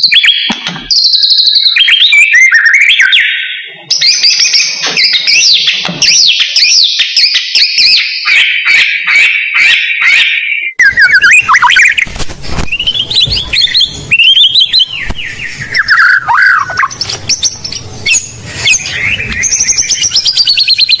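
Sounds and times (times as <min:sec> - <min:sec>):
bird singing: 0:00.0 - 0:12.1, 0:12.7 - 0:21.0.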